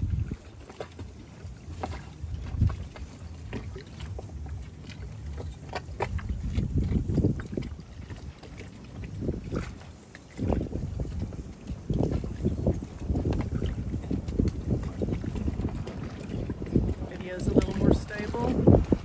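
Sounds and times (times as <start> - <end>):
water lapping against boat hull: 0.0 - 19.0
wind on microphone: 0.0 - 19.0.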